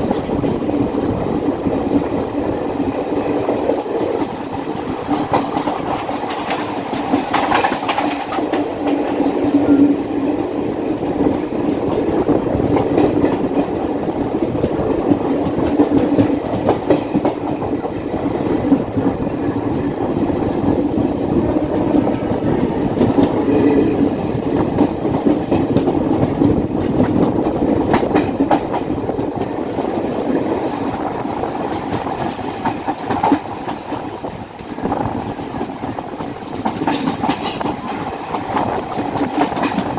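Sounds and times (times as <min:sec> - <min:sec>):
train rumbling on track: 0:00.0 - 0:39.9
wheels clickety-clack on rail joints: 0:00.0 - 0:39.9.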